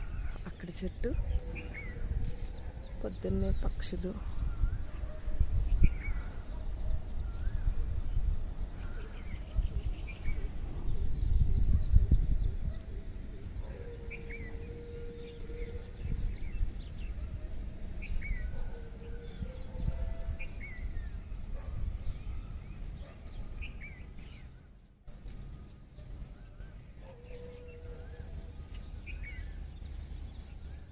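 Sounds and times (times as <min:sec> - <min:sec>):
birds chirping: 0:00.0 - 0:30.9
wind rumble on microphone: 0:00.0 - 0:30.9.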